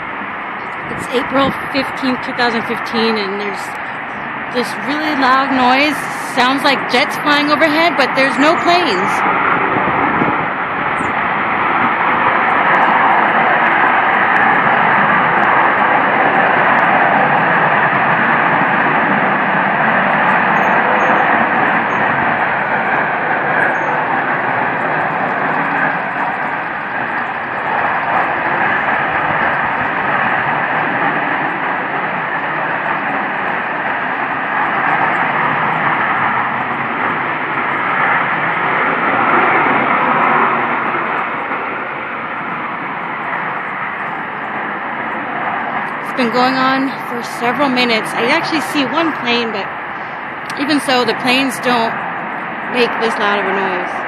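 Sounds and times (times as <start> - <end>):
loud roar from the sky: 0.0 - 54.0.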